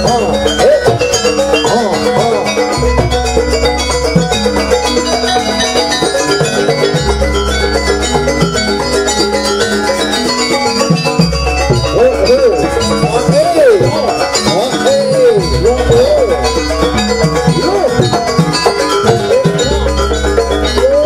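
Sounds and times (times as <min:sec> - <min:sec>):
gamelan ensemble dance music: 0:00.0 - 0:21.0.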